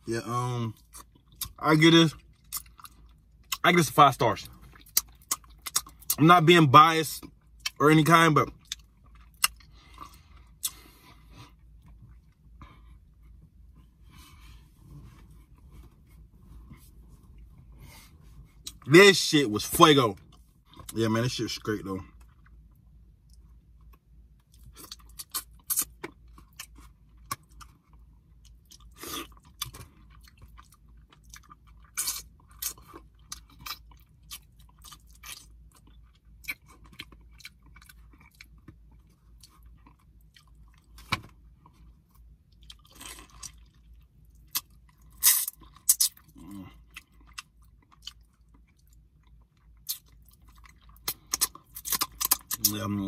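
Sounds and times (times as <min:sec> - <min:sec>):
man chewing and lip-smacking: 0:00.7 - 0:06.3, 0:07.1 - 0:18.9, 0:22.1 - 0:53.0.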